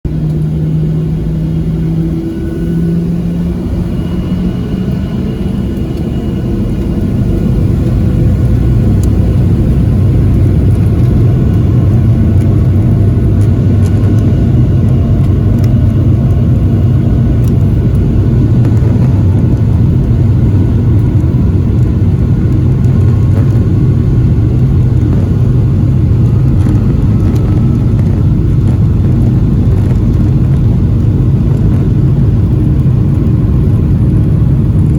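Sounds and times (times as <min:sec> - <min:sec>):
jet engines spooling up: 0:00.1 - 0:34.9.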